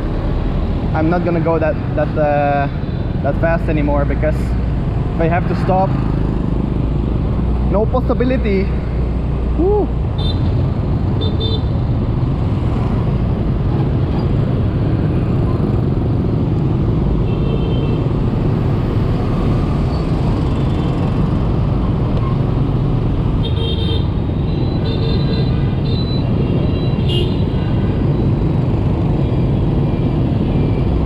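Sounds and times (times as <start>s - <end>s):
motorbike traffic: 0.0s - 31.0s
wind and road noise from scooter: 0.0s - 31.0s.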